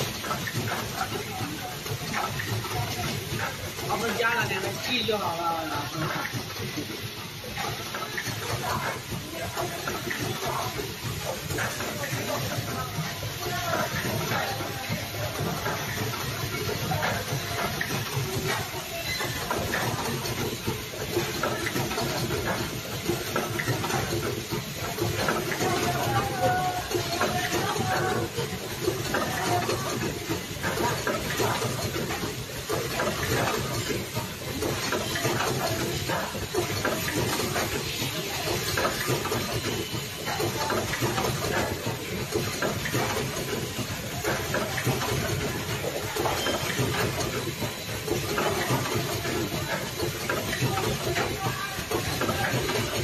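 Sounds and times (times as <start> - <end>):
machine humming and hissing: 0.0 - 53.0
pneumatic clicks and clacks: 0.0 - 53.0.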